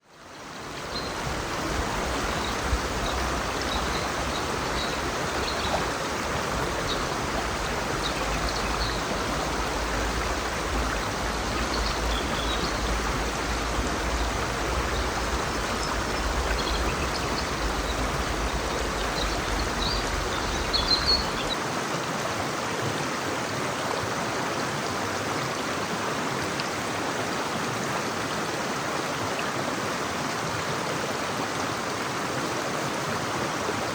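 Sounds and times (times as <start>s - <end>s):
river flowing over rocks: 0.0s - 33.9s.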